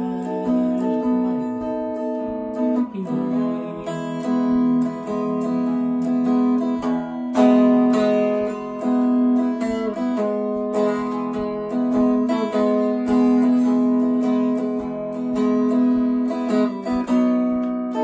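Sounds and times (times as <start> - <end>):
electric guitar country melody: 0.0 - 18.0.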